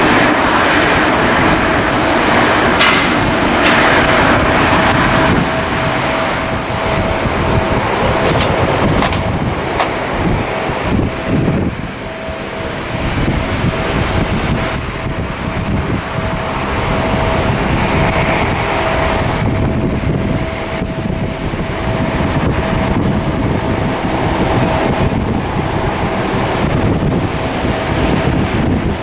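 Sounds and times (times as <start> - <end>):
jet engines humming: 0.0 - 29.0
wind buffeting microphone: 0.0 - 29.0.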